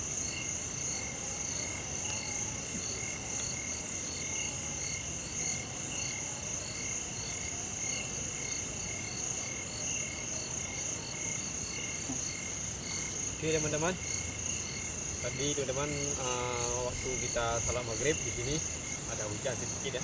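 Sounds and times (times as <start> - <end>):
insects shrill drone: 0.0 - 20.0
frogs chirping: 0.2 - 20.0.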